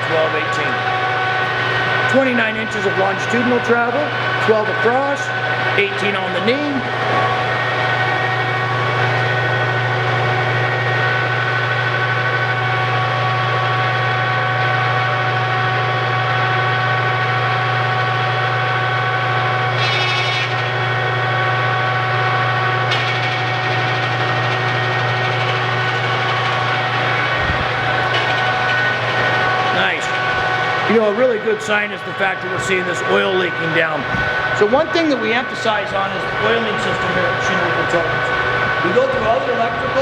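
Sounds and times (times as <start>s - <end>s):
gear whine: 0.0s - 40.0s
milling machine hum: 0.0s - 40.0s.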